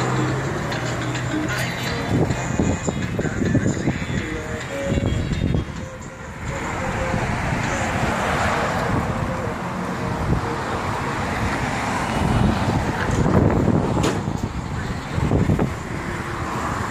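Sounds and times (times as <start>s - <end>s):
cars passing on busy street: 0.0s - 16.9s.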